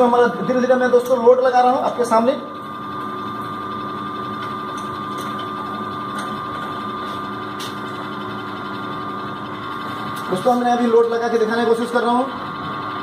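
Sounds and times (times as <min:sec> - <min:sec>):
electric motor and gears humming: 0:00.0 - 0:13.0.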